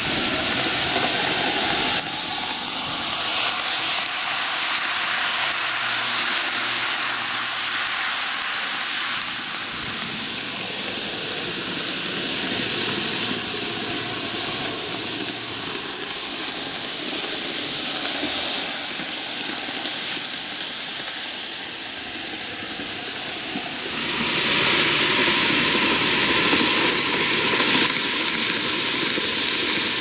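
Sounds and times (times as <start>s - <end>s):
model train rattling on rails: 0.0s - 30.0s.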